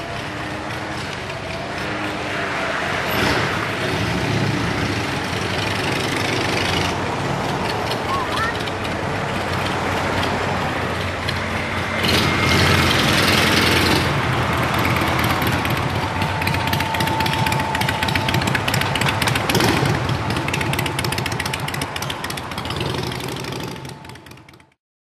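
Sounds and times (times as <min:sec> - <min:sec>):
cars passing: 0:00.0 - 0:24.8
rapid clatter: 0:00.0 - 0:24.8.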